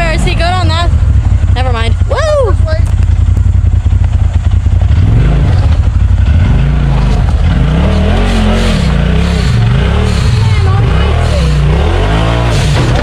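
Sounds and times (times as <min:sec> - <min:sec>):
utility vehicle engine revving: 0:00.0 - 0:13.0.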